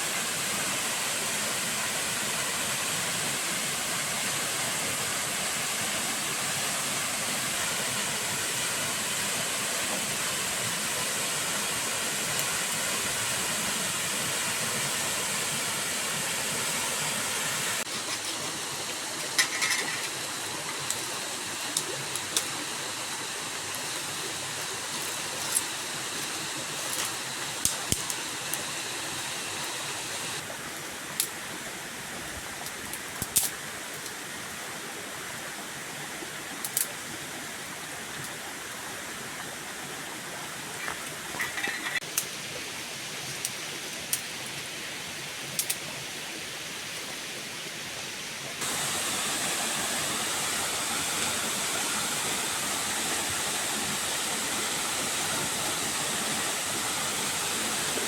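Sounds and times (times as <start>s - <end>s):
rush of falling water: 0.0s - 58.0s.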